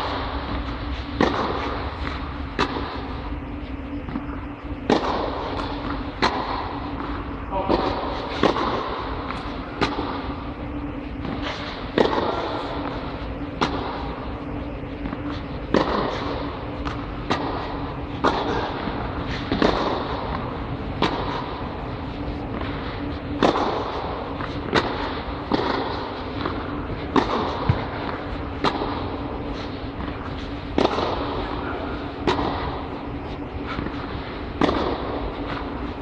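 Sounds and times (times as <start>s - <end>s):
tennis ball hit and bouncing: 0.0s - 3.3s, 3.9s - 36.0s
steady low hum: 0.0s - 36.0s.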